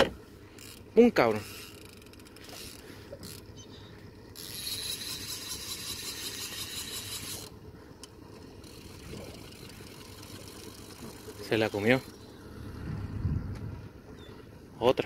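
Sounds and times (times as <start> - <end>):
low steady rumble: 0.0 - 15.0
fishing reel drag buzzing: 0.3 - 12.8.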